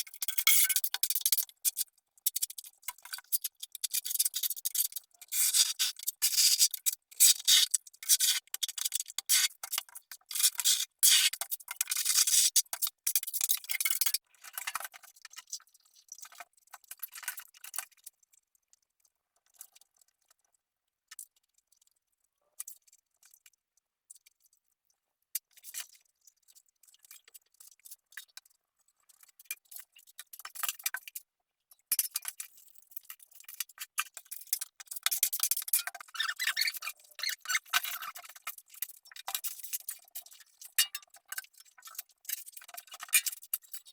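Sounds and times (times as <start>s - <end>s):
small clinks and ticks: 0.0s - 43.9s.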